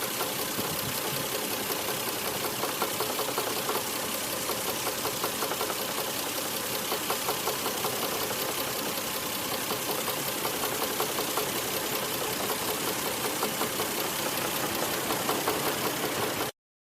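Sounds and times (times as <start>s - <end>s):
car engine running: 0.0s - 16.5s
regular knocking from engine: 0.0s - 16.6s.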